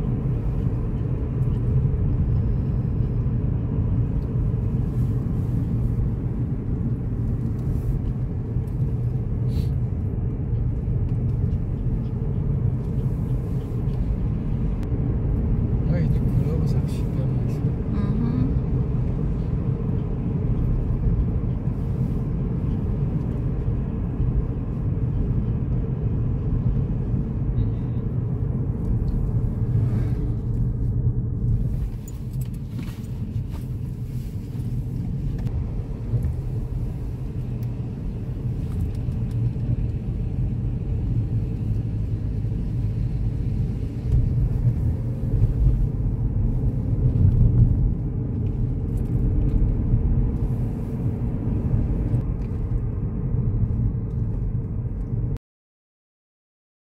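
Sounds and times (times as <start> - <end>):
car engine and tyre rumble: 0.0 - 55.4.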